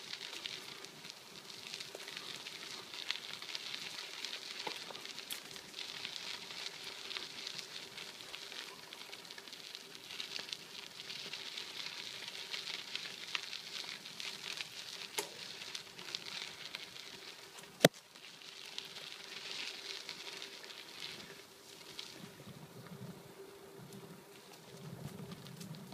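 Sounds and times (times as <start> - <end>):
bicycle tyres on dirt trail: 0.0 - 25.9.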